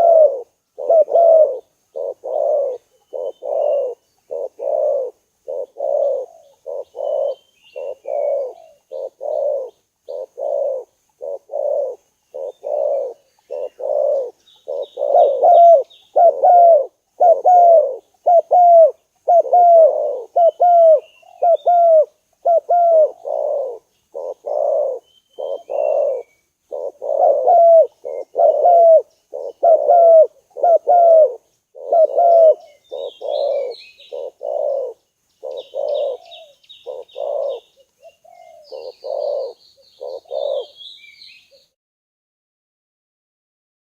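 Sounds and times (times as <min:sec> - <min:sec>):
doves cooing: 0:00.0 - 0:41.7.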